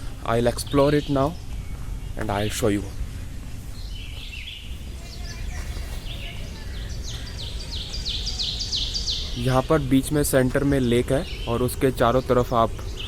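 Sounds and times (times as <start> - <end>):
wild birds calling: 0.0 - 13.0.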